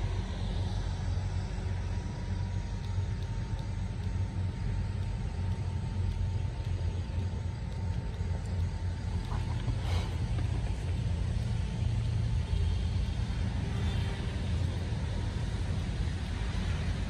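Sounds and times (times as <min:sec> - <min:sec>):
faint thin whine: 0:00.0 - 0:17.0
low electrical buzz: 0:00.0 - 0:17.0.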